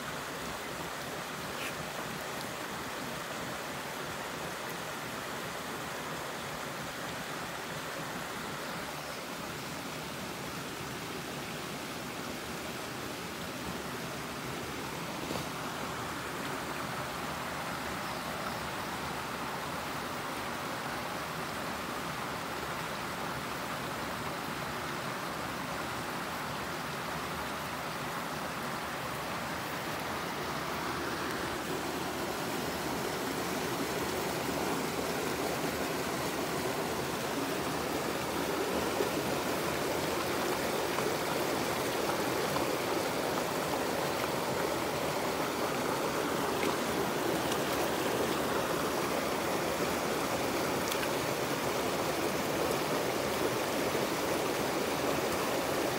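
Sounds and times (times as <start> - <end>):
creek running over rocks: 0.0 - 55.9.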